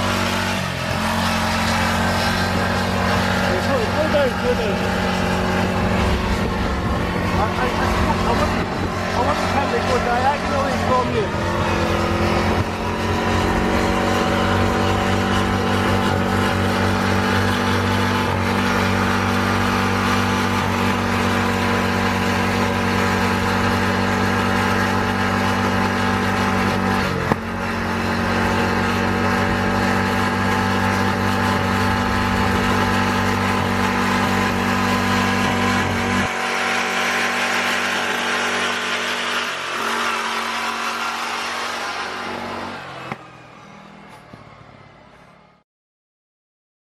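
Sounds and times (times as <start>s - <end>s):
lawnmower engine running: 0.0s - 44.7s.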